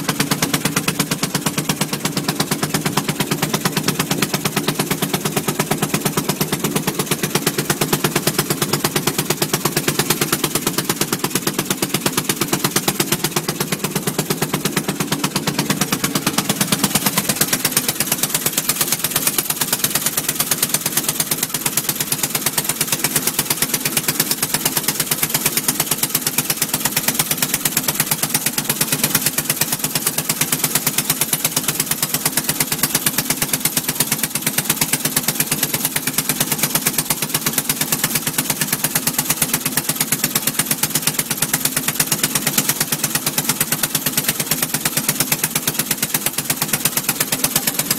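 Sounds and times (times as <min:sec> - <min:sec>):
single-cylinder marine engine running: 0:00.0 - 0:47.9.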